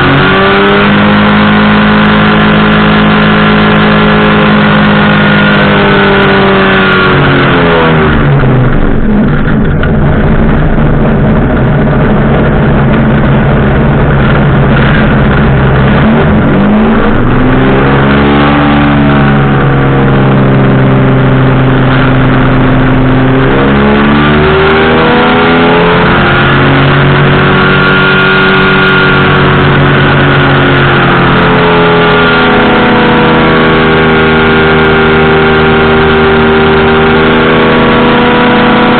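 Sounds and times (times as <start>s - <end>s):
engine and propeller running: 0.0s - 38.9s.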